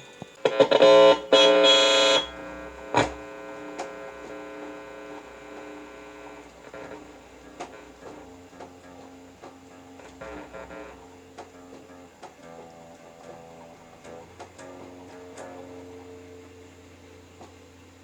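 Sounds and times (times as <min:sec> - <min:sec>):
amplifier hum: 0:00.0 - 0:18.0
electric guitar chords: 0:00.0 - 0:18.0.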